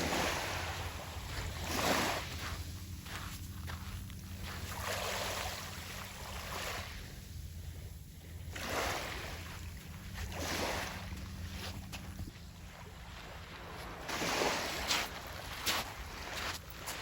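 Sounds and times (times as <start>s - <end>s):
sea waves washing ashore: 0.0s - 17.0s
steady low hum: 0.0s - 17.0s.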